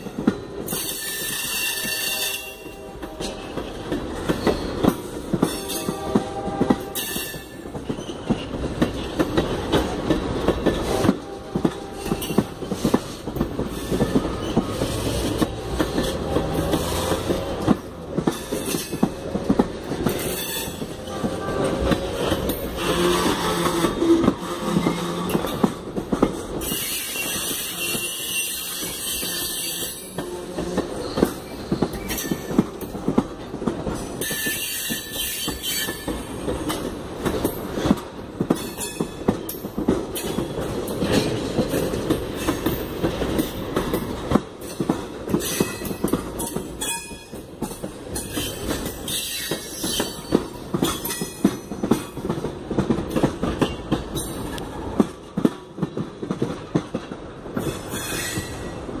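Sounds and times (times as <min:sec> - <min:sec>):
train wheels clacking over rail joints: 0:00.0 - 0:58.8.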